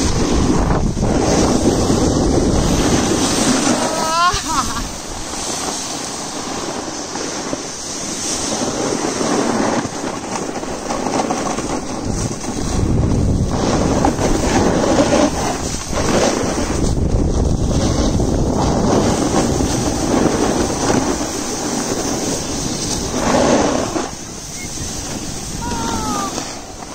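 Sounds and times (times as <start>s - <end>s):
ski edges scraping packed snow: 0.0s - 26.9s
wind rushing over microphone: 0.0s - 26.9s.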